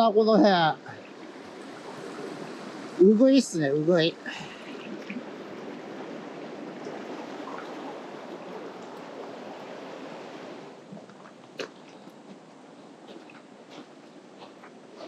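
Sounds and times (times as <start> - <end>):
stream rushing over rocks: 0.0 - 12.7.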